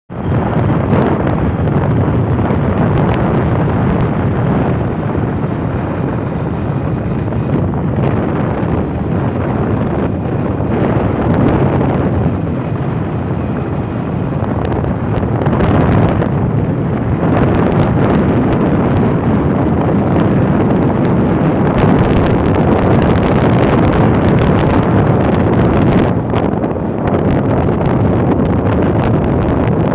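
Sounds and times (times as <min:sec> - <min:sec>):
motorbike road noise: 0:00.1 - 0:29.9
wind buffeting microphone: 0:00.1 - 0:29.9.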